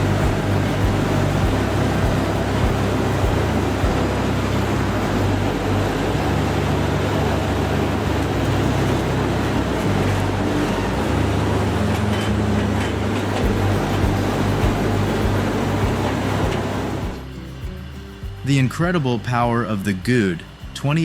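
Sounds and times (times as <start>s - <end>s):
heavy machinery engine drone: 0.0s - 21.0s
rushing grinding noise: 0.0s - 21.0s.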